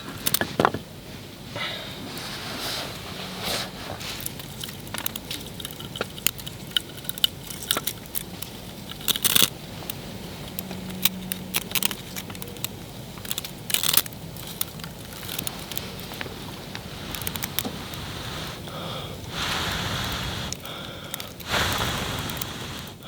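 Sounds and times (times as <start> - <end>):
dry tinder crackling: 2.6 - 23.0.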